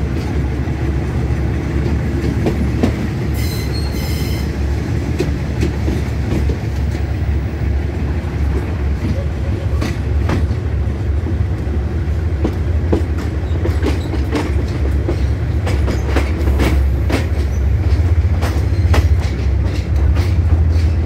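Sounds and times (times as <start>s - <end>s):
train carriage rumbling: 0.0s - 21.0s
wheels clacking over rail joints: 0.0s - 21.0s.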